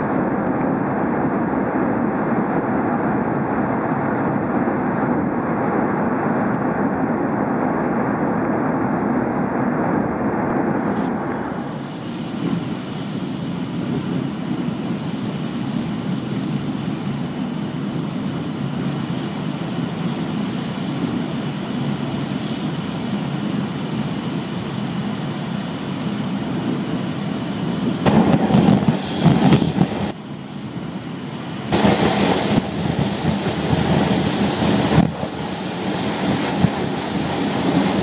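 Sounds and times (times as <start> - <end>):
train running at speed: 0.0 - 38.0.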